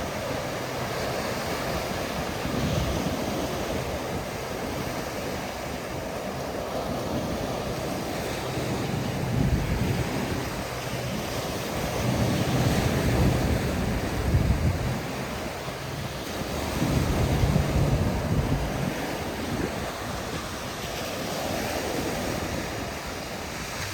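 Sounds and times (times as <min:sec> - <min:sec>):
ocean surf breaking on beach: 0:00.0 - 0:23.9
wind rumble on microphone: 0:00.0 - 0:23.9.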